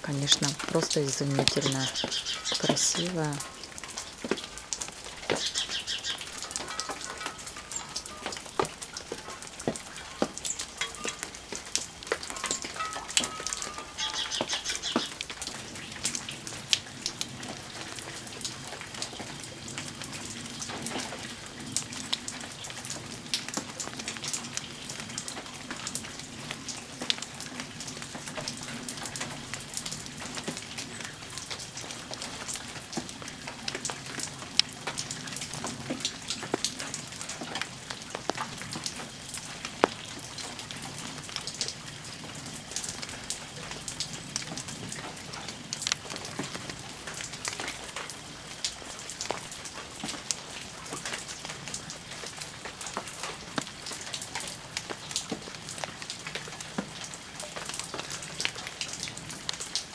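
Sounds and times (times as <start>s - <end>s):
rain dripping: 0.0s - 59.9s.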